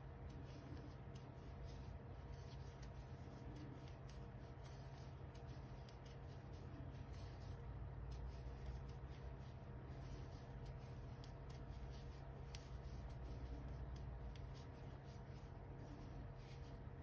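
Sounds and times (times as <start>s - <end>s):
low steady hum: 0.0s - 17.0s
yarn rustling with crochet hook: 0.0s - 17.0s.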